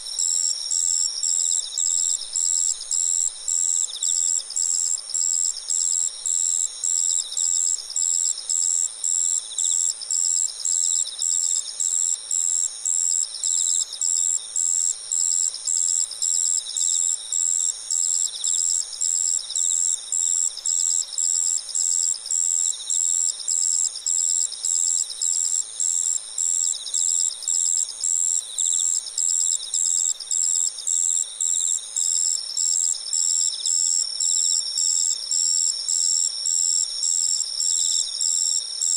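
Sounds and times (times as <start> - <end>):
high-pitched cricket chirp: 0.0 - 38.9.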